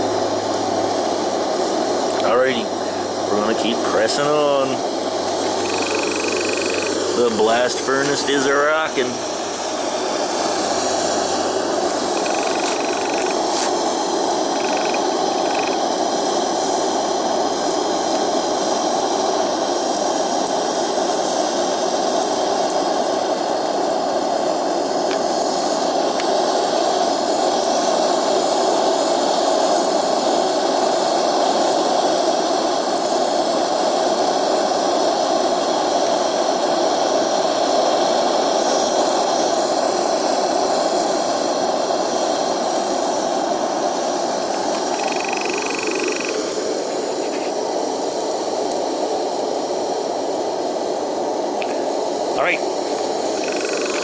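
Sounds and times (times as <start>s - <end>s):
burner flame rushing: 6.9s - 45.1s, 46.3s - 53.4s.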